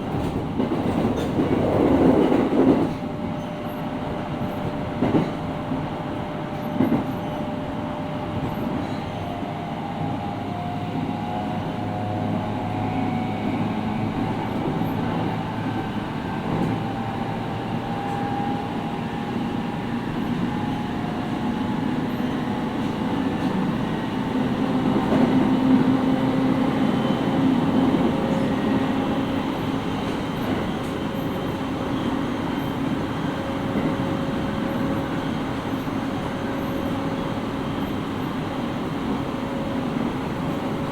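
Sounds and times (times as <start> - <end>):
train wheels rolling on rail: 0.0 - 40.9.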